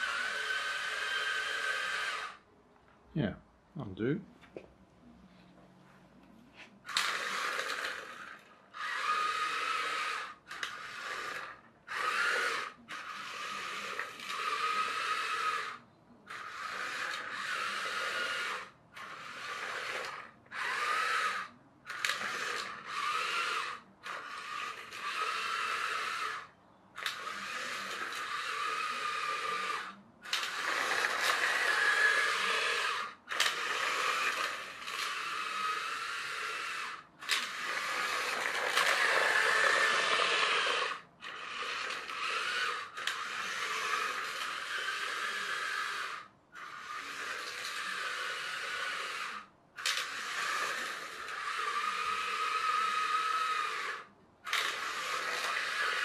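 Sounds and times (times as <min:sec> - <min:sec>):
toy truck electric motor whining: 0:00.0 - 0:02.4, 0:06.8 - 0:56.0.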